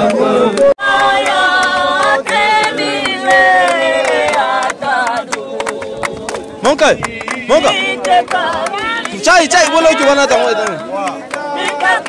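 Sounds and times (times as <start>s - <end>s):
group singing a hymn: 0.0s - 12.0s.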